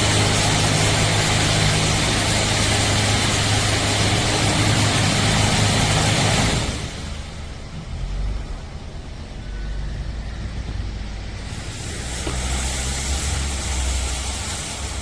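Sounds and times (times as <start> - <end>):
steady hiss: 0.0 - 15.0
vehicle engine rumbling: 0.0 - 15.0.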